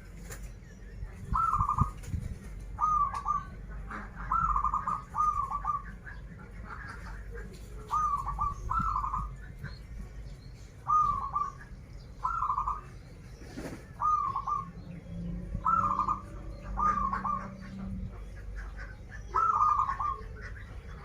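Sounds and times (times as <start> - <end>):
steady low hum: 0.0 - 21.0
dove cooing: 1.1 - 9.8, 10.8 - 21.0.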